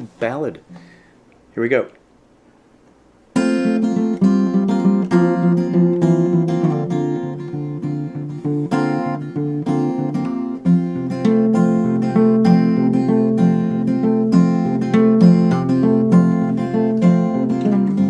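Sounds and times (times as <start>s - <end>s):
fingerpicked acoustic guitar: 3.3s - 18.0s.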